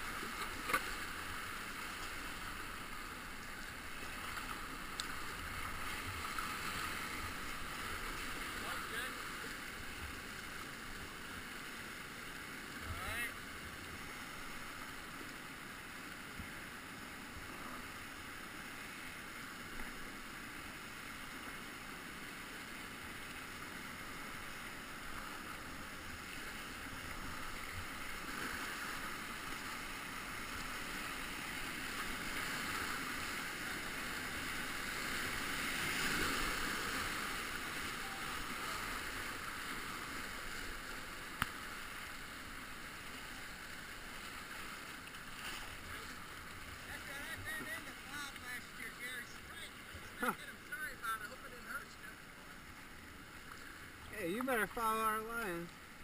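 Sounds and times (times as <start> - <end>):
rushing river rapids: 0.0 - 56.0.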